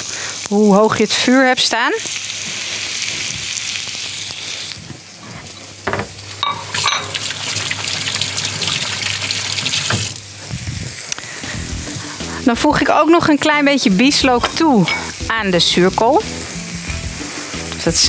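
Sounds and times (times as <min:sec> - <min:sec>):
burgers sizzling on a grill: 0:00.0 - 0:06.4, 0:07.1 - 0:18.0.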